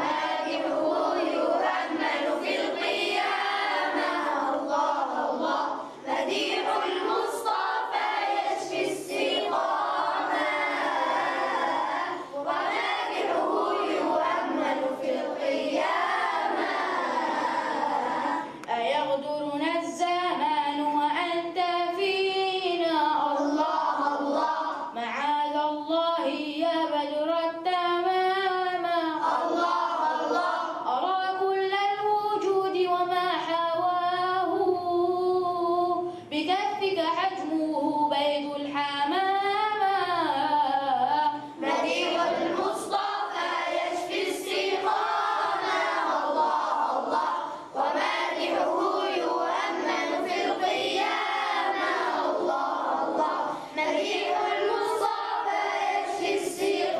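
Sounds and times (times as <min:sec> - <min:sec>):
group of young voices singing: 0:00.0 - 0:56.9.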